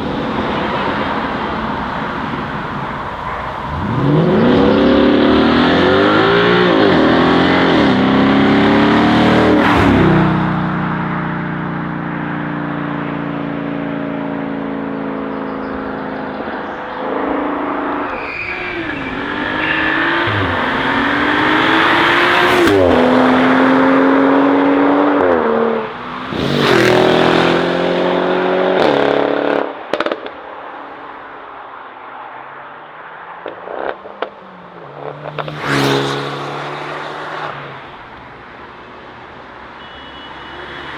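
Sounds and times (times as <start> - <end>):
sports car engine accelerating: 0.0 - 30.1, 33.4 - 38.4.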